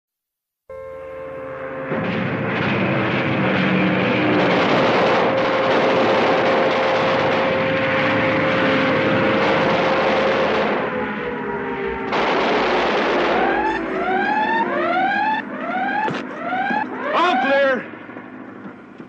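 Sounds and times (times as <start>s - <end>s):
propeller aircraft engine droning: 0.7s - 19.0s.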